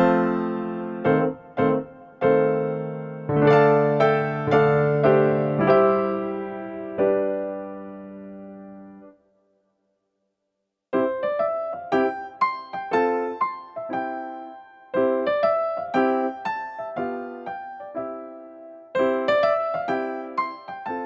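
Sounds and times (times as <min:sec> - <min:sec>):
piano music: 0:00.0 - 0:09.2, 0:11.0 - 0:21.0.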